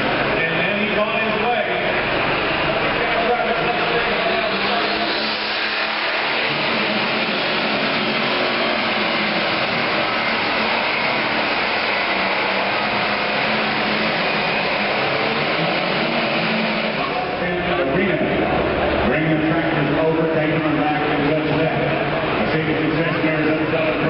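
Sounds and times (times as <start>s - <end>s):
diesel engine roaring under load: 0.0s - 24.0s.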